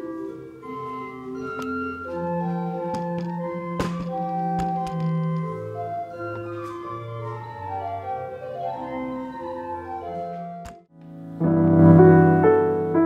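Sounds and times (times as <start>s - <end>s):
church organ playing: 0.0s - 13.0s.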